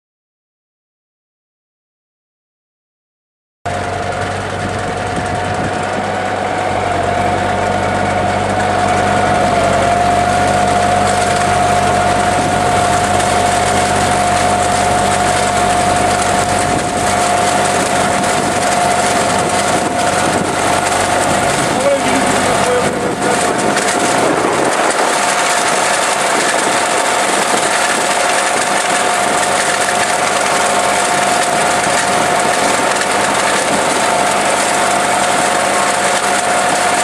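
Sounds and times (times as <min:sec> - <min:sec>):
high machine whine: 0:03.7 - 0:37.0
tractor engine running: 0:03.7 - 0:37.0.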